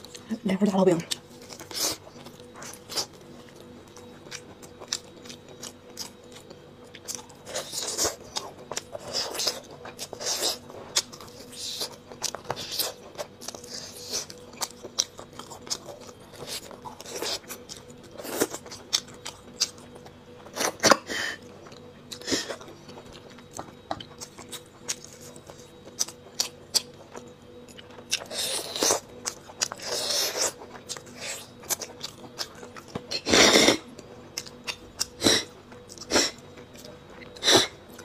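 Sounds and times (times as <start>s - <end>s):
biting and chewing bread: 1.1s - 38.0s.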